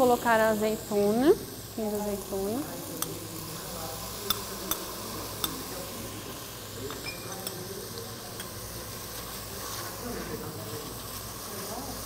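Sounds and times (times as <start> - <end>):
faint sizzle from pan: 0.0 - 12.0.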